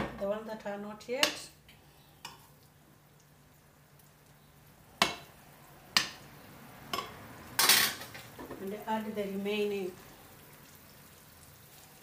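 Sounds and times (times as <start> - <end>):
meatballs sizzling in hot oil: 1.2 - 12.0.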